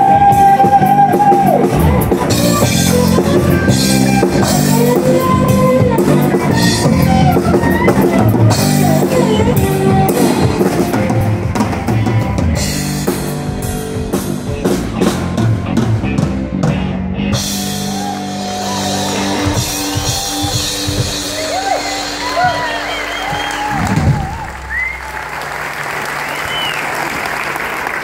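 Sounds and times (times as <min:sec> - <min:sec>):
country band playing: 0:00.0 - 0:26.3.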